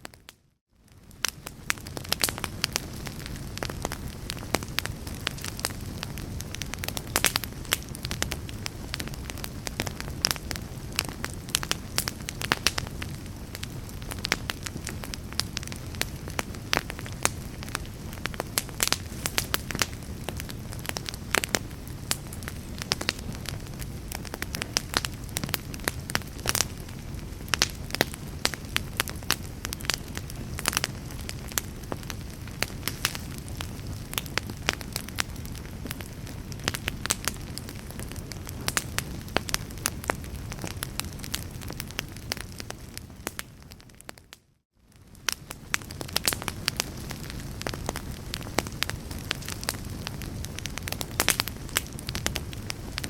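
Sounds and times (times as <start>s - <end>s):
wood fire crackling in fireplace: 0.0s - 53.0s.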